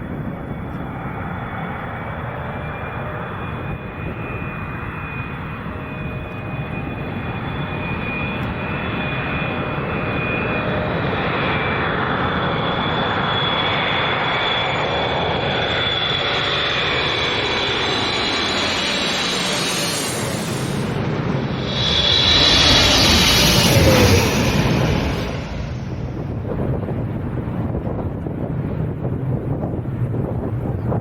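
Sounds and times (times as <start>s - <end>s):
jet engines with fan whine: 0.0s - 31.0s.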